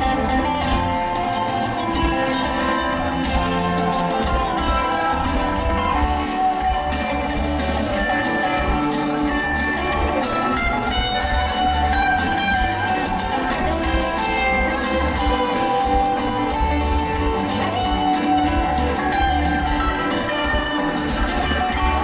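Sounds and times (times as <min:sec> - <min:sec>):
bass and drums: 0:00.0 - 0:22.0
electric guitar: 0:00.0 - 0:22.0.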